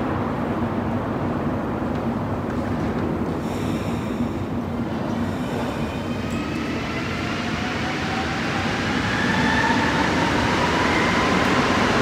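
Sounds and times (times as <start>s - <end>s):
low train rumble: 0.0s - 12.0s.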